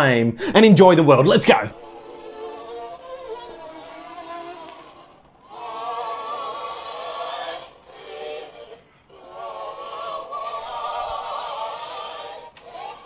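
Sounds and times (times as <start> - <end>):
singing from a record player: 1.8 - 13.0.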